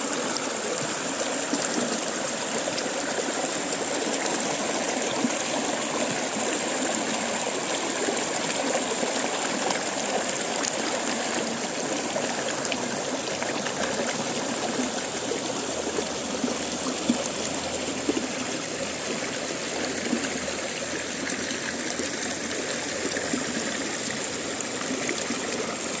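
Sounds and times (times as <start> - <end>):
river water flowing over rocks: 0.0 - 26.0.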